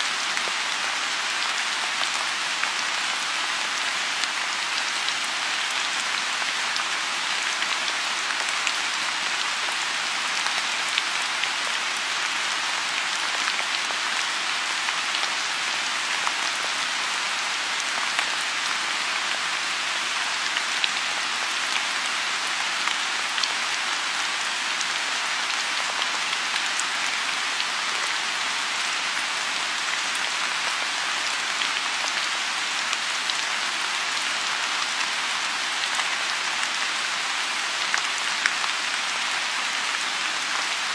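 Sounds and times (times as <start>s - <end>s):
rain hissing on a pond: 0.0s - 40.9s.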